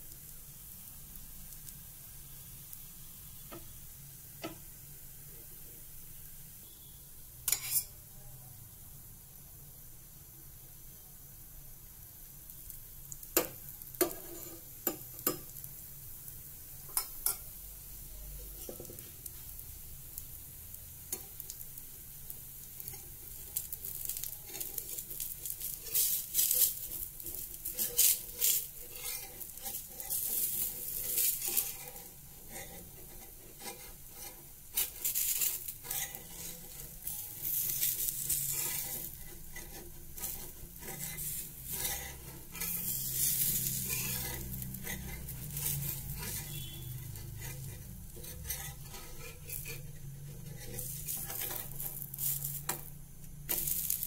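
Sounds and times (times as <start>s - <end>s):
batter sizzling in oil: 0.0s - 54.0s.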